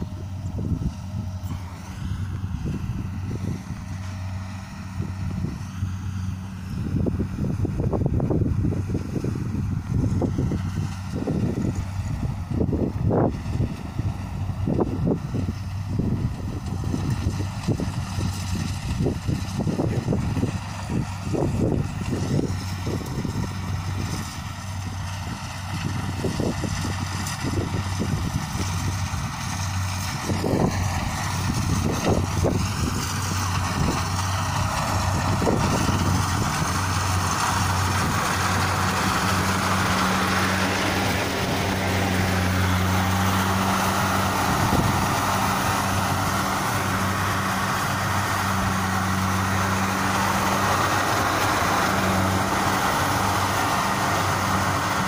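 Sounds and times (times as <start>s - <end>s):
diesel engine hum: 0.0s - 55.0s
threshing machinery rattle: 0.0s - 55.0s.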